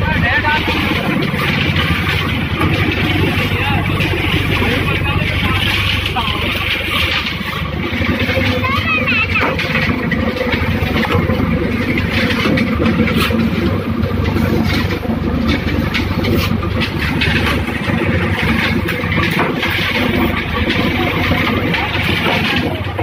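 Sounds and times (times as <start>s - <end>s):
machine mechanical hum: 0.0s - 23.0s
sharp knocks and clatter: 0.0s - 23.0s.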